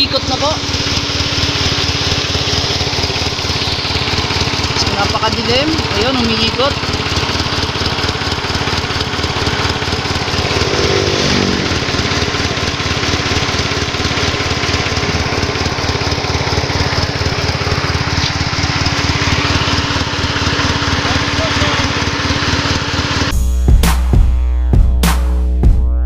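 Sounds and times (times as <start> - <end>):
drive belt running on pulleys: 0.0 - 23.3
vehicle engine idling: 0.0 - 23.6.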